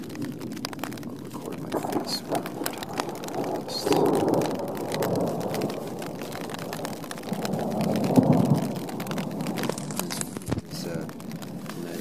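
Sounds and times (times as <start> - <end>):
rain falling: 0.0 - 12.0
rolling thunder: 0.0 - 12.0.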